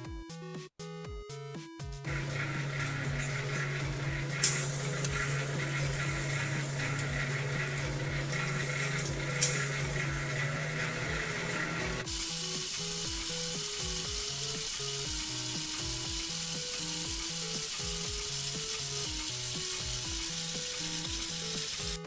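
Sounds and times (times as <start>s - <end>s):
music with steady beat: 0.0s - 22.0s
loud sizzling hiss: 2.1s - 22.0s.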